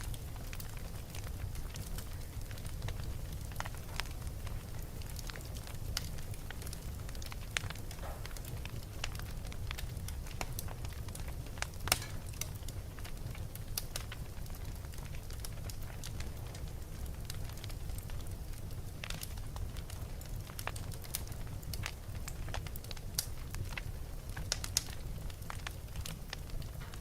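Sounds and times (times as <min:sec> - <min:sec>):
fire crackling and popping: 0:00.0 - 0:27.0
fire low rumble: 0:00.0 - 0:27.0.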